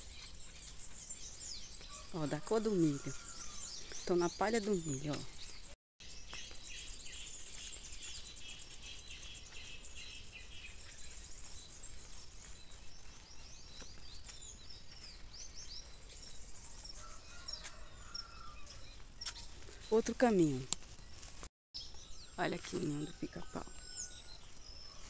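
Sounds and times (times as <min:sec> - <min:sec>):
birds chirping and calling: 0:00.0 - 0:21.2, 0:21.8 - 0:25.0.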